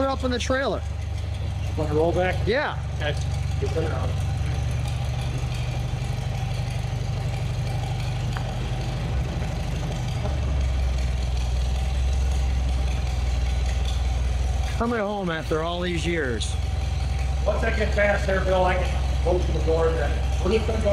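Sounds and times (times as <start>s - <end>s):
vehicle engine idling: 0.0s - 20.9s.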